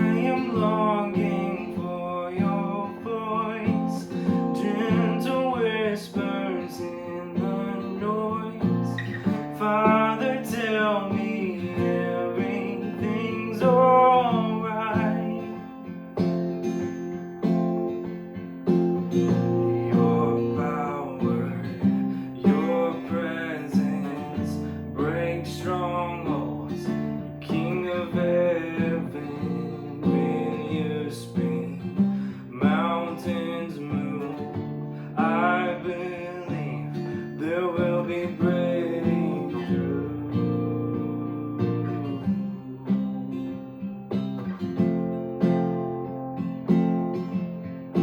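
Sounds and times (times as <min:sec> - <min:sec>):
strummed acoustic guitar: 0:00.0 - 0:48.0.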